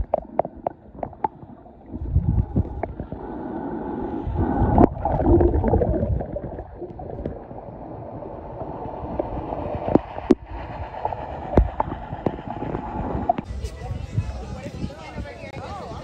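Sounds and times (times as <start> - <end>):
muffled underwater sloshing: 0.0 - 13.5.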